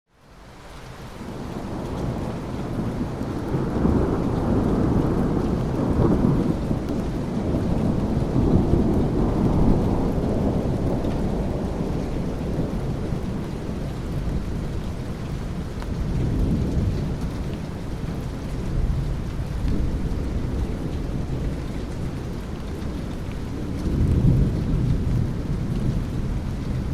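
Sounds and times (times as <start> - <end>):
steady rain: 0.1 - 26.9
rolling thunder: 1.2 - 26.9.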